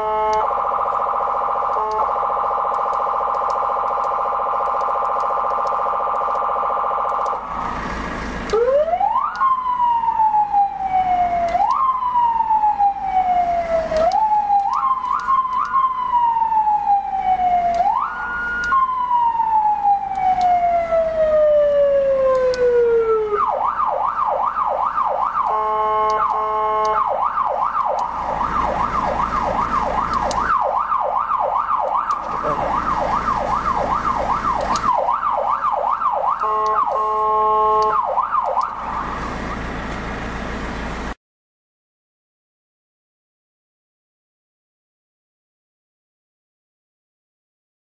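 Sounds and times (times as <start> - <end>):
electronic siren wailing: 0.0 - 39.8.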